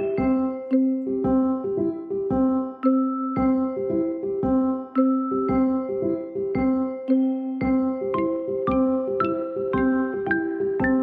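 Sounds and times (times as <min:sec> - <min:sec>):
light bouncy tune over beat: 0:00.0 - 0:11.0.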